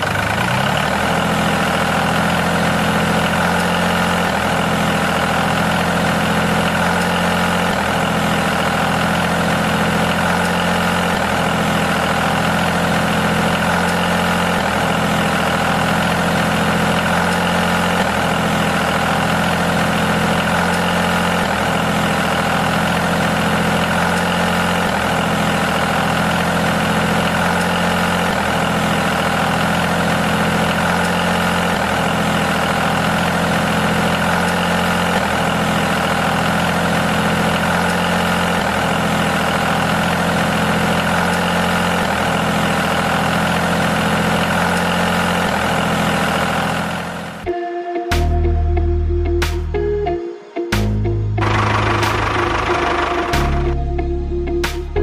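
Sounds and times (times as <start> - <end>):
diesel tractor engine idling: 0.0 - 50.2, 50.8 - 55.0.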